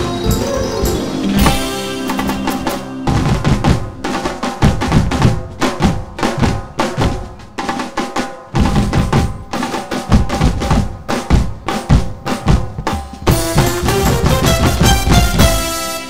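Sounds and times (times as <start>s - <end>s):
bass drum beats: 0.0s - 7.6s, 8.5s - 15.9s
drum band beating drums: 0.0s - 16.0s.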